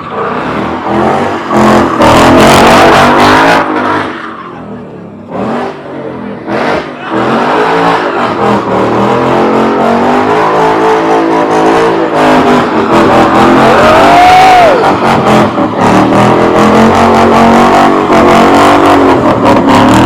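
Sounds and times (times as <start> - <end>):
car engine revving hard: 0.0 - 4.3, 5.2 - 20.0.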